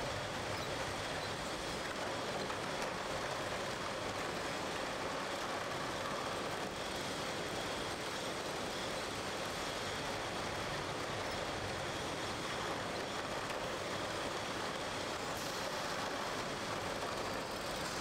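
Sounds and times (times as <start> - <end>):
bottling line conveyors running: 0.0 - 18.0.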